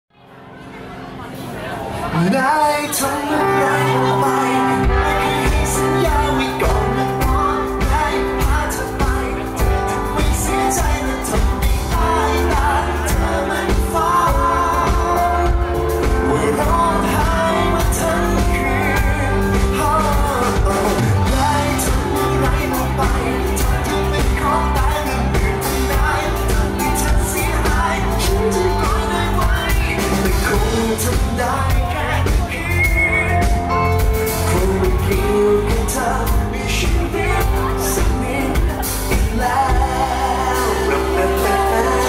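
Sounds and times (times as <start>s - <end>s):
live pop band playing: 0.2s - 42.0s
man singing into a microphone: 2.0s - 42.0s
drums and cymbals: 4.8s - 42.0s.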